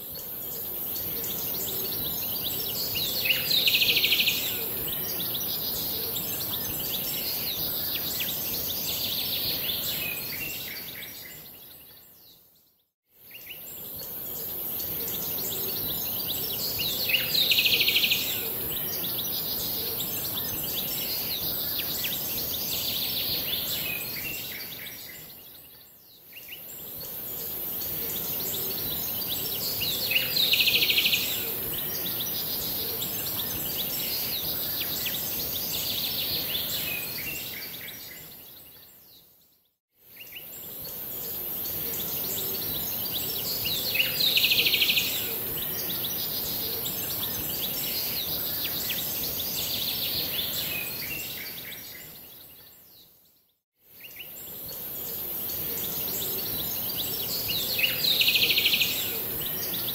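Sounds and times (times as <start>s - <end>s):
background hiss: 0.0s - 12.4s, 13.2s - 39.2s, 40.0s - 53.0s, 53.9s - 59.9s.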